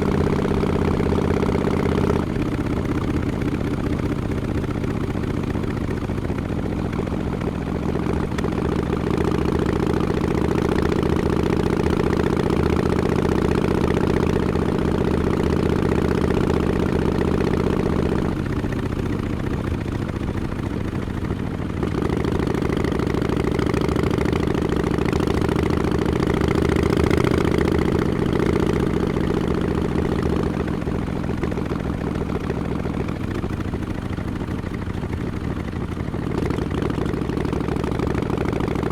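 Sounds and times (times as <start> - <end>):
motorcycle v-twin engine running: 0.0 - 38.9.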